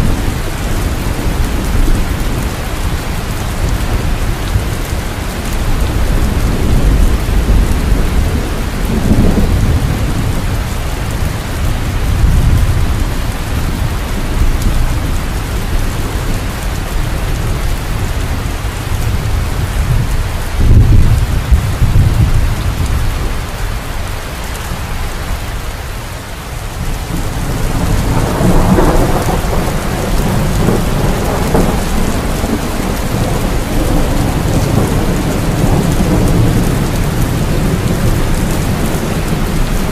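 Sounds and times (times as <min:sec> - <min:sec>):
rolling thunder: 0:00.0 - 0:23.6, 0:26.7 - 0:39.9
heavy rain: 0:00.0 - 0:39.9.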